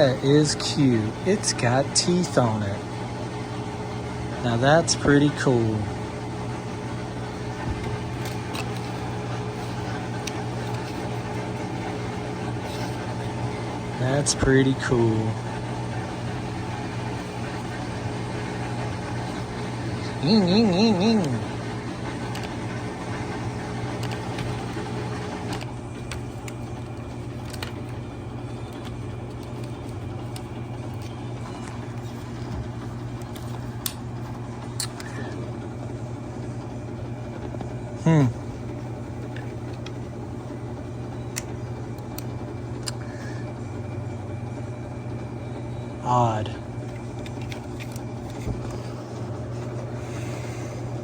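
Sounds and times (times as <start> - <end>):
electric motor hum: 0.0 - 51.0.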